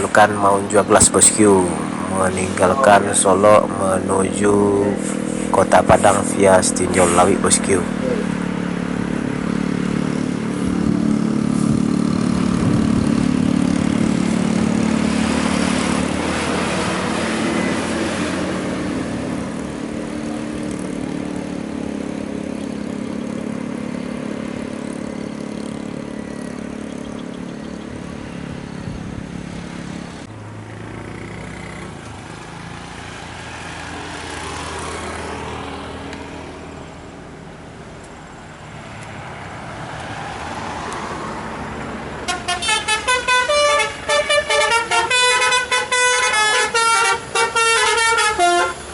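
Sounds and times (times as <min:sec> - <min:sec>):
coach diesel engine passing: 0:00.0 - 0:48.9
vehicle passing: 0:00.0 - 0:48.9.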